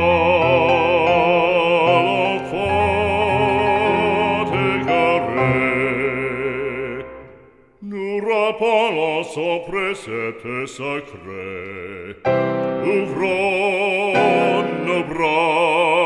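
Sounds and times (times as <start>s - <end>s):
slow devotional song: 0.0s - 16.0s.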